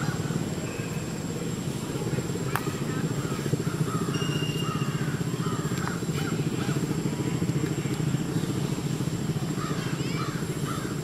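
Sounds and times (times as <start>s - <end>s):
engine rumbling: 0.0s - 11.0s
faint chirping calls: 0.0s - 11.0s.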